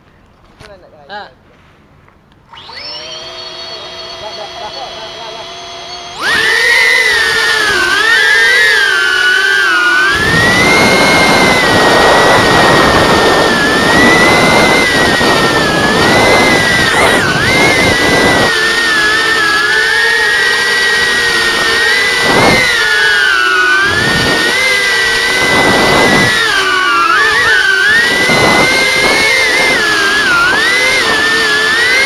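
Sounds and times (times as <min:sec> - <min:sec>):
drone motors whining: 0:02.4 - 0:32.0.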